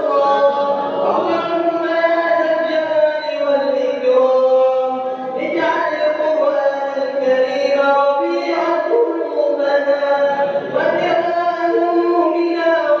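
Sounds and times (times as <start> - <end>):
man chanting prayer: 0.0 - 13.0.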